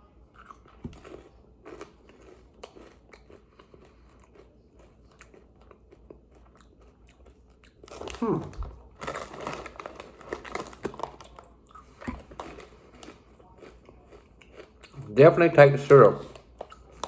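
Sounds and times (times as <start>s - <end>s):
person chewing crunchy snack: 0.4s - 15.2s, 16.2s - 17.0s.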